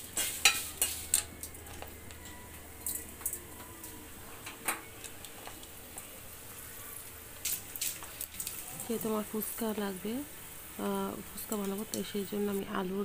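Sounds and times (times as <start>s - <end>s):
food popping in hot oil: 0.0s - 12.6s.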